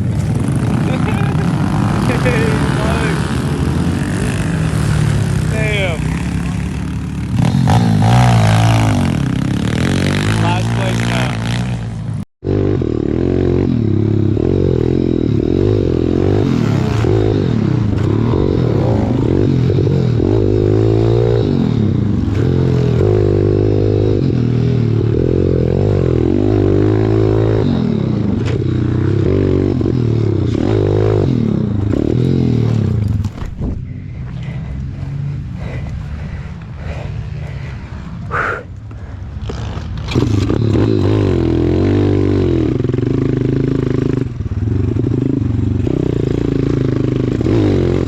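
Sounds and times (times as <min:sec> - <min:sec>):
small motorbike engine revving: 0:00.0 - 0:11.8, 0:12.5 - 0:38.6, 0:39.4 - 0:48.0.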